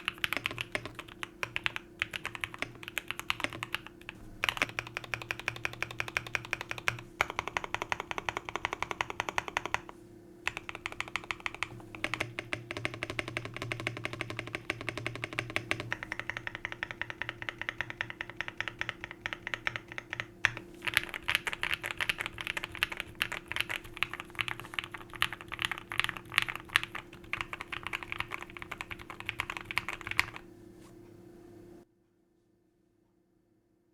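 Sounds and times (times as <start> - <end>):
mechanical keyboard typing: 0.0 - 30.5.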